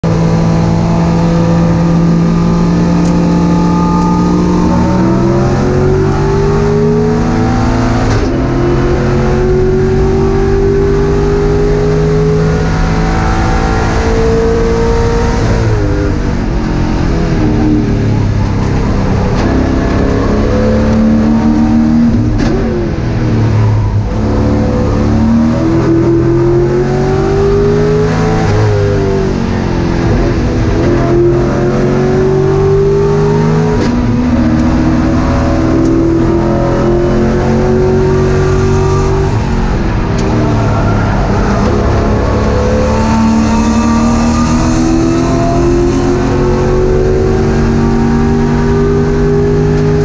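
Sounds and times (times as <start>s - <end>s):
race car engine accelerating: 0.0s - 50.0s.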